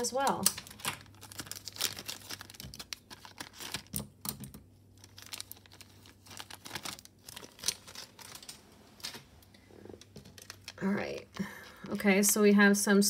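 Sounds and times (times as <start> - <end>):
plastic crinkling and rustling: 0.0 - 12.2.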